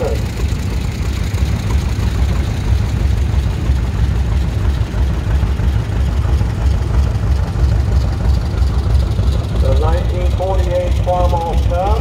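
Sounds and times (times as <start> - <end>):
other tractor engines running: 0.0 - 12.0
tractor engine pulsing exhaust: 0.0 - 12.0.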